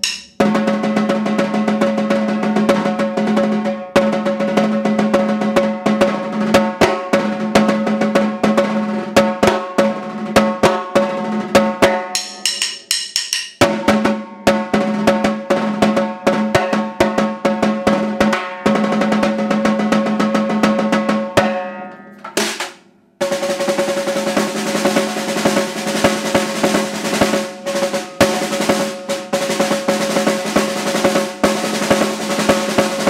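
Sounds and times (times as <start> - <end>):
snare drum strokes and rolls: 0.0 - 33.0.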